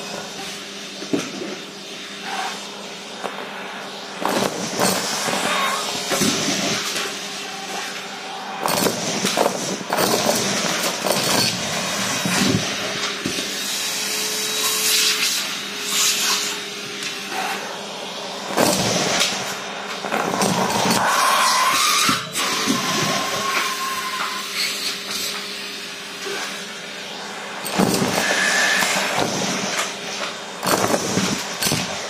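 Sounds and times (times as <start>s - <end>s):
vacuum cleaner suction: 0.0s - 32.0s.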